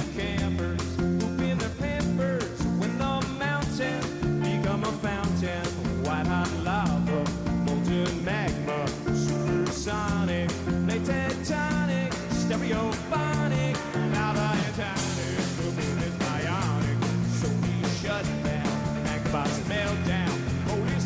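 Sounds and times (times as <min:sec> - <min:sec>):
bass line: 0:00.0 - 0:21.0
drum beat: 0:00.0 - 0:21.0
guitar with bent notes: 0:00.0 - 0:21.0.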